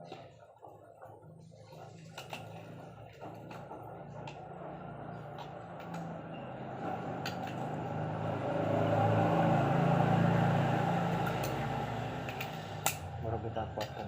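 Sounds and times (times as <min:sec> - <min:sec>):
low motor hum: 0:00.0 - 0:13.9.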